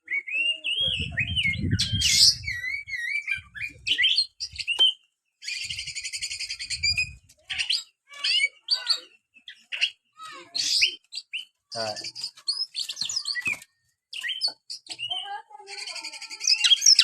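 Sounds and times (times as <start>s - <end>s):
bird singing whistled notes: 0.0s - 15.4s, 16.4s - 17.0s.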